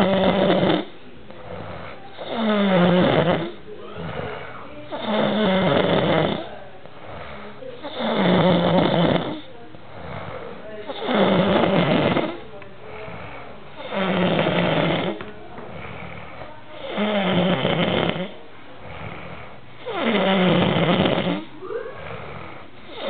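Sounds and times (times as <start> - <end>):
loud snoring: 0.0 - 12.4, 13.0 - 23.0
quiet breaths: 0.0 - 23.0.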